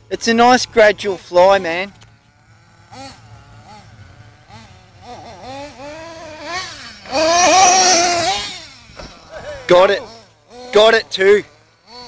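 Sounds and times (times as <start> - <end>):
small two-stroke engine revving: 0.0 - 12.0.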